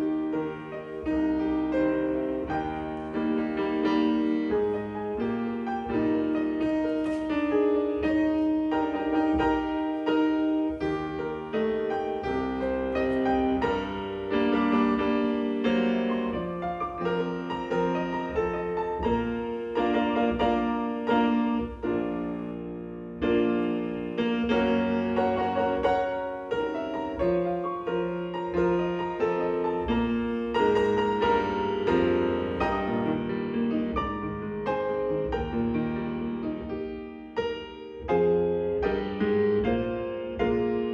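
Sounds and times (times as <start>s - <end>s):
slow piano music: 0.0s - 40.9s.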